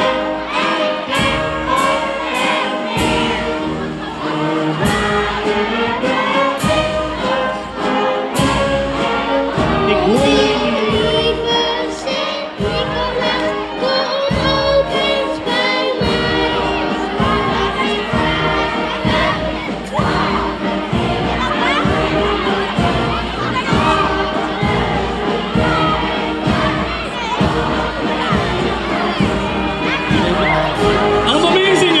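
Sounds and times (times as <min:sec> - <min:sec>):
drum strokes: 0:00.0 - 0:32.0
sustained brass notes: 0:00.0 - 0:32.0
voices singing along: 0:00.0 - 0:32.0.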